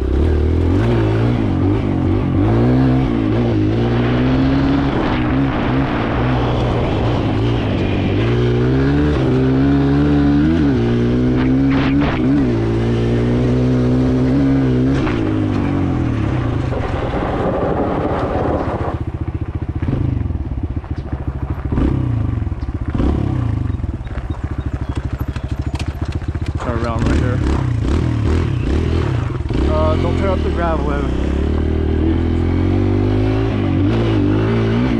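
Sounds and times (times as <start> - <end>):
dirt bike engine revving: 0.0 - 19.1, 21.7 - 34.9.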